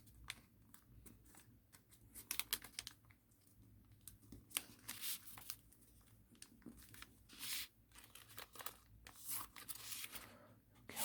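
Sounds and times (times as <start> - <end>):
paper rustling and crinkling: 0.0 - 10.4.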